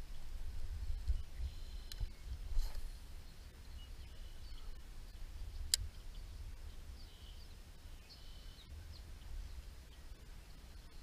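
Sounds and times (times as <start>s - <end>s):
faint bird chirps: 0.0s - 11.0s
steady low rumble: 0.0s - 11.0s.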